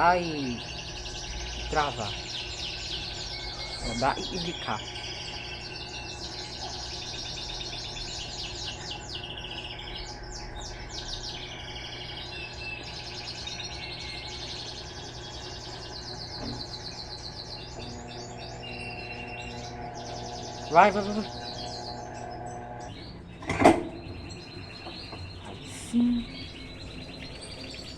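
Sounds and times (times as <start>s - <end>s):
small birds chirping: 0.0s - 27.9s
steady low hum: 0.0s - 27.9s.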